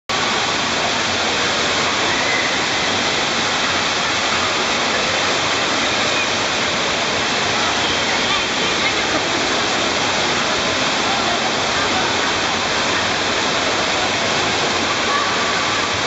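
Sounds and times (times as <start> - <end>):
water spraying and splashing: 0.1 - 16.0.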